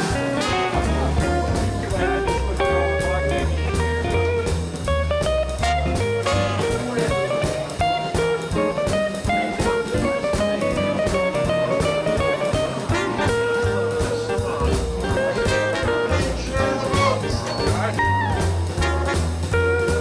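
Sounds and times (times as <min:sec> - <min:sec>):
bass line: 0:00.0 - 0:20.0
guitar: 0:00.0 - 0:20.0
steady drum beat: 0:00.0 - 0:20.0.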